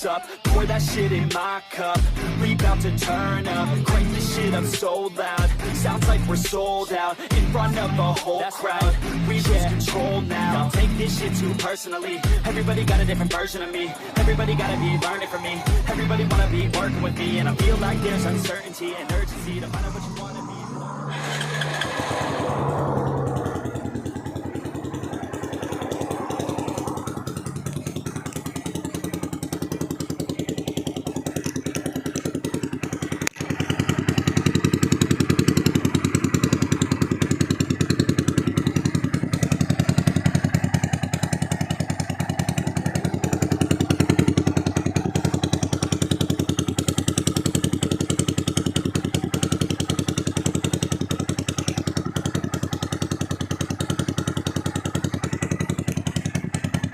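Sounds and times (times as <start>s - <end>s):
motorcycle engine running: 0.4s - 1.4s, 2.0s - 8.2s, 8.8s - 56.9s.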